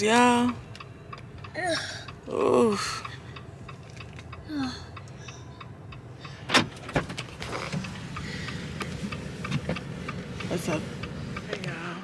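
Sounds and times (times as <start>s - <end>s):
low rumble inside a car: 0.0s - 12.0s.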